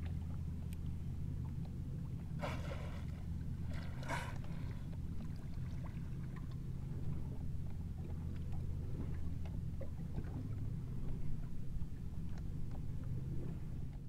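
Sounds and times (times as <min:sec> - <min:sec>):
water splashing against hull: 0:00.0 - 0:14.0.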